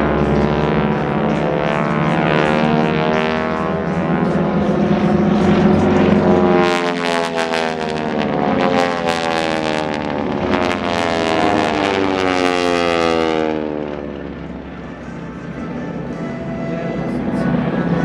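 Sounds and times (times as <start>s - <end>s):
propeller planes droning past: 0.0s - 18.0s.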